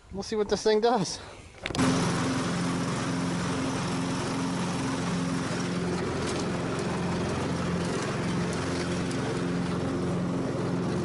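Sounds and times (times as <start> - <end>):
lawn tractor engine running: 1.6 - 11.0.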